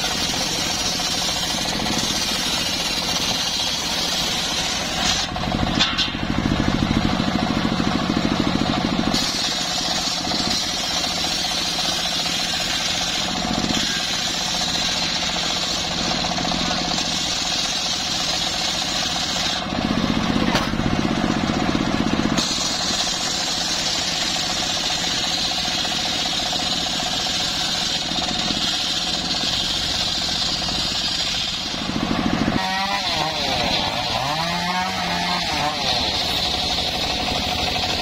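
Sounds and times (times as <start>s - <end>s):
circular saw cutting a log: 0.0s - 38.0s.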